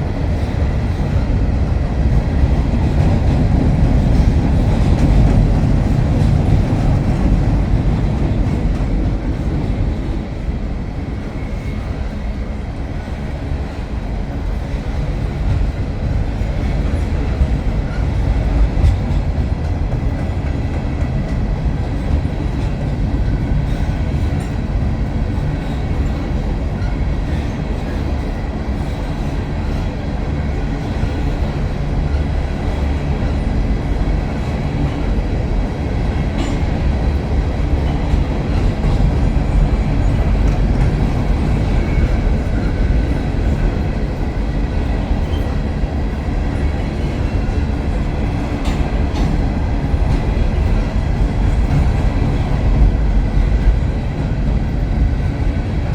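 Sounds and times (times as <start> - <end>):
freight train wheels rumbling on rail: 0.0 - 55.9
train wheel clacks: 0.0 - 55.9.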